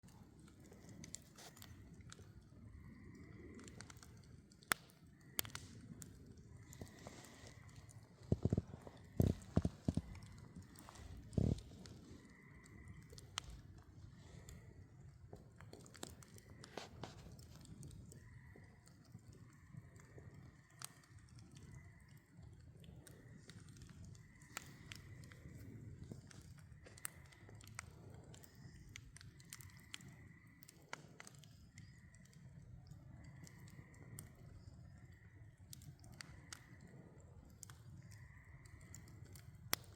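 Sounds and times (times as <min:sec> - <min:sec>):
campfire crackling: 0:00.0 - 0:39.9
fire popping: 0:00.0 - 0:39.9
low rumble of flame: 0:00.0 - 0:39.9.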